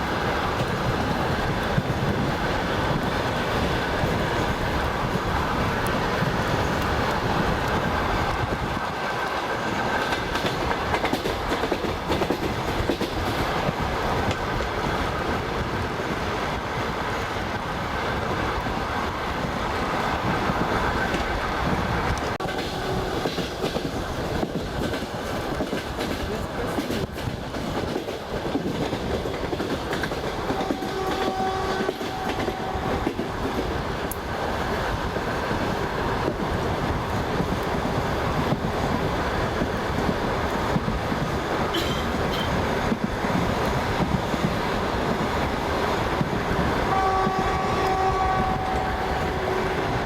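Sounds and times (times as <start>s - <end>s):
train wheels rumbling on rails: 0.0s - 50.0s
wheels clacking over rail joints: 0.0s - 50.0s.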